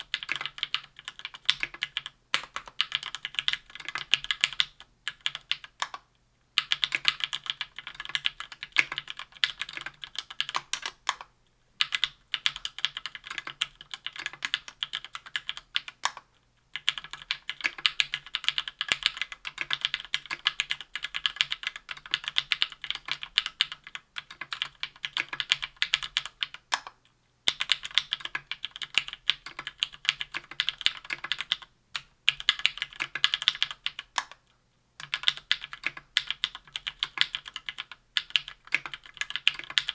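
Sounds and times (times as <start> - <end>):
mechanical keyboard typing: 0.0 - 34.4, 35.0 - 39.9.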